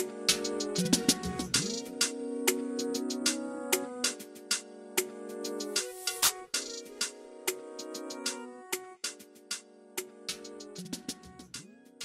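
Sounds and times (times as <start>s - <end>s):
music with steady beat and chords: 0.0s - 12.0s.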